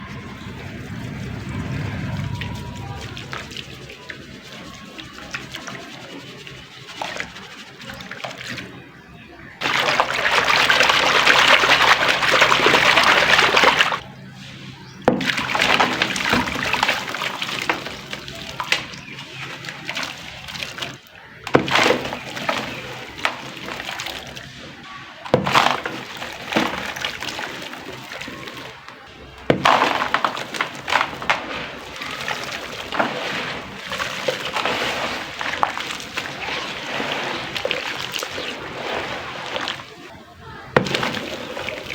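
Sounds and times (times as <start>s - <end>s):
crackling fizz: 0.0s - 14.0s, 15.4s - 41.9s
loose material pouring: 0.0s - 14.0s, 15.1s - 41.9s
lumps splashing into water: 0.0s - 41.9s.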